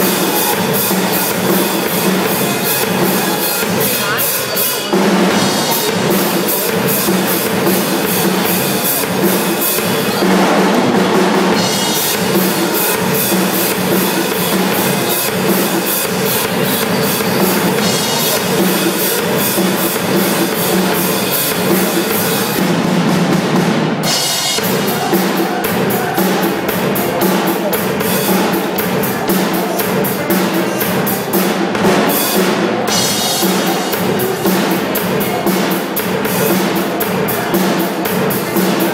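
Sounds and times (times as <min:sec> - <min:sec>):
drum kit playing: 0:00.0 - 0:38.9.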